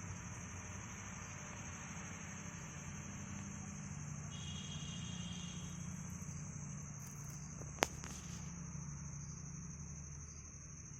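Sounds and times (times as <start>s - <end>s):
insects trilling: 0.0s - 10.9s.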